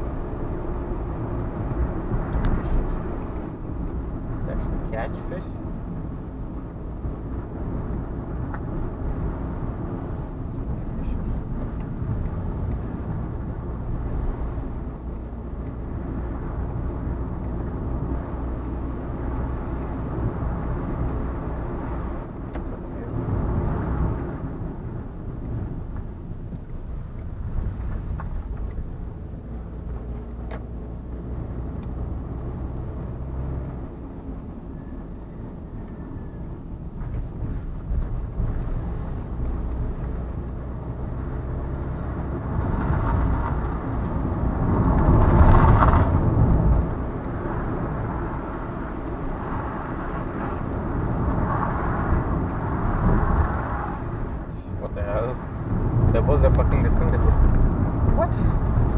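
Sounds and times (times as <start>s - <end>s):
road noise: 0.0s - 58.9s
vehicle engine hum: 0.0s - 58.9s.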